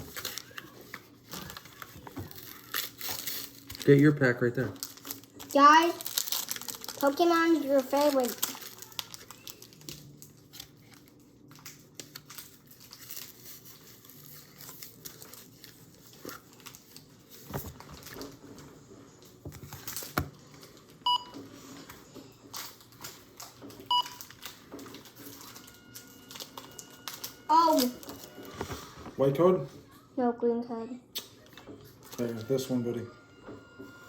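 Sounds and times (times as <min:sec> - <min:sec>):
foil wrappers crinkling: 0:00.0 - 0:21.0, 0:22.4 - 0:29.3.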